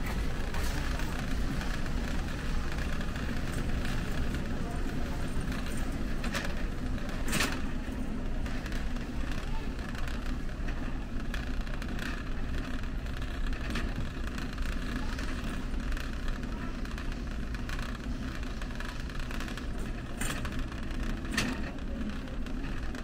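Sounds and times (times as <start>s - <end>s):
warehouse store ambience rumble: 0.0s - 23.0s.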